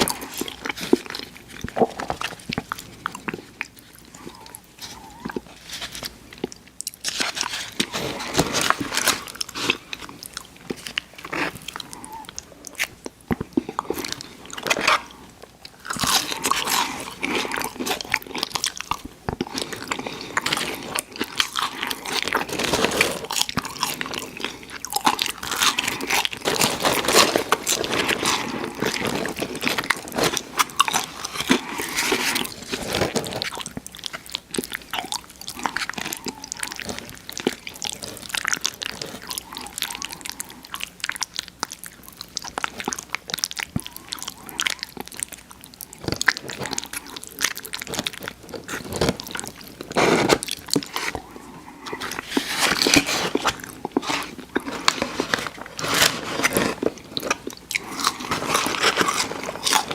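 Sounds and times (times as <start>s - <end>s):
crunchy chewing of fried food: 0.0s - 59.9s.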